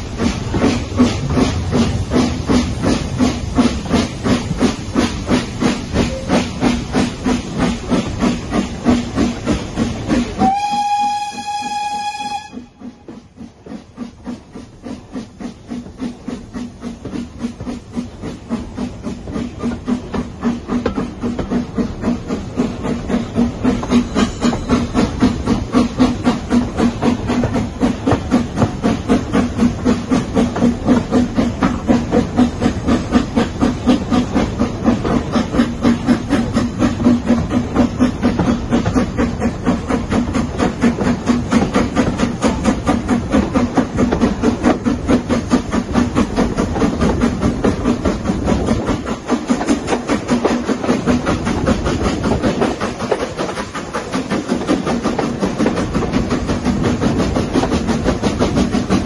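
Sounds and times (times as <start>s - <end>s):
steam hiss: 0.0s - 59.0s
steam locomotive exhaust chuffs: 0.0s - 59.0s
train running noise: 0.0s - 59.0s.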